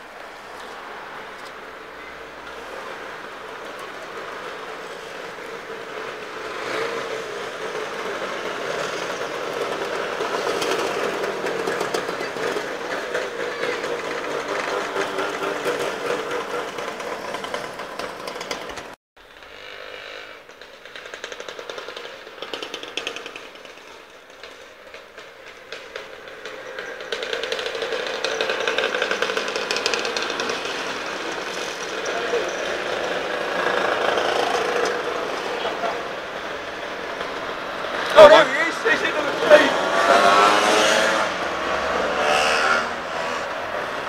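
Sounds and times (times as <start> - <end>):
motor scooters riding past: 0.3 - 44.0.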